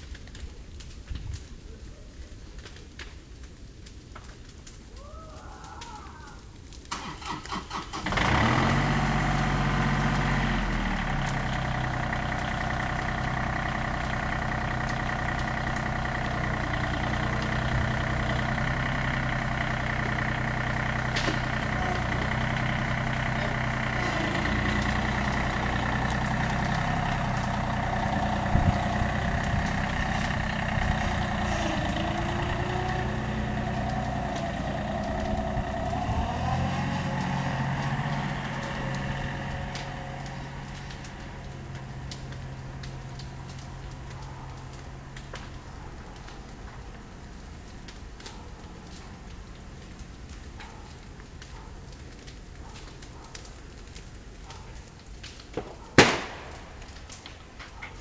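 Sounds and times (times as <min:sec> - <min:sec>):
tractor engine cranking and running: 0:06.8 - 0:58.0.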